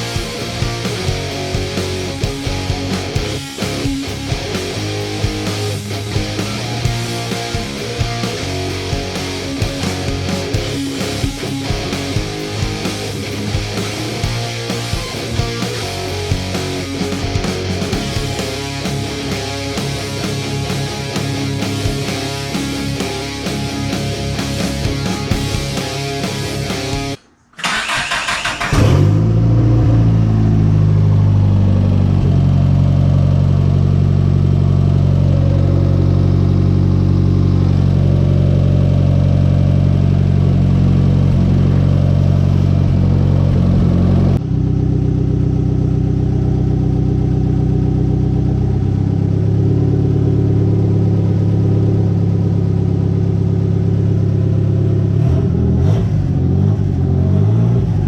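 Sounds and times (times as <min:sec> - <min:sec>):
car engine running steadily: 0:00.0 - 0:27.2, 0:28.7 - 0:58.0.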